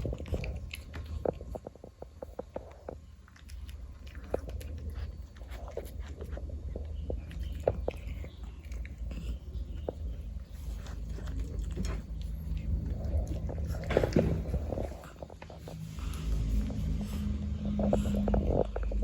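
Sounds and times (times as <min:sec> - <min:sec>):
cat chewing wet food: 0:00.0 - 0:19.0
steady low hum: 0:00.0 - 0:19.0.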